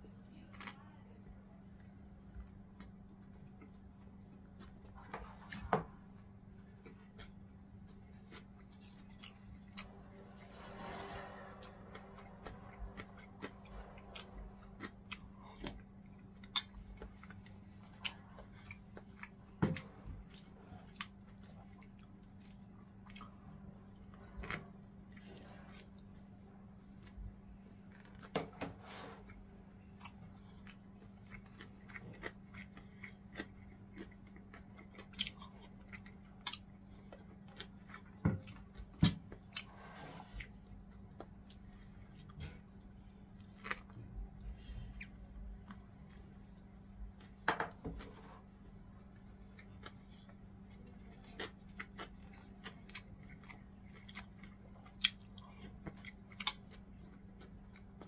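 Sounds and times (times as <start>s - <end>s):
steady low hum: 0.0s - 58.0s
chewing and mouth sounds: 0.3s - 28.4s, 29.2s - 47.4s, 48.2s - 58.0s.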